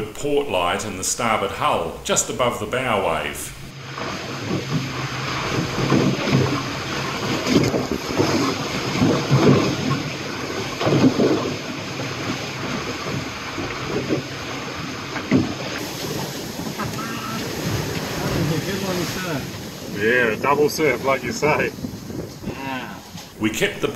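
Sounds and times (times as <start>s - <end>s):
water rushing against hull: 0.0s - 23.9s.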